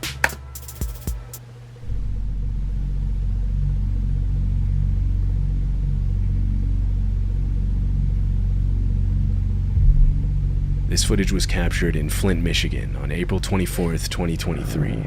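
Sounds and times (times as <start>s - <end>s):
deep low drone: 1.8s - 15.0s.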